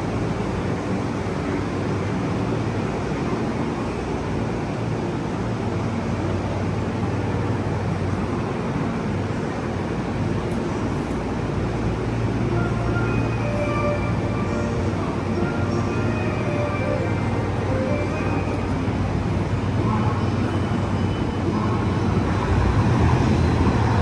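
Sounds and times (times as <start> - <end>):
idling train rumble and hum: 0.0 - 24.0.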